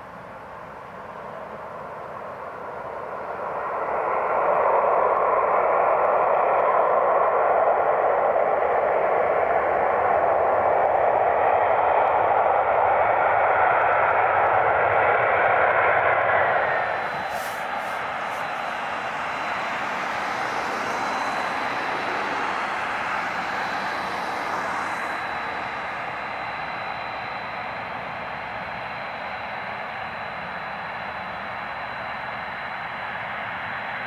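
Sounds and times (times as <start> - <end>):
jet engines at high thrust: 0.0 - 34.0.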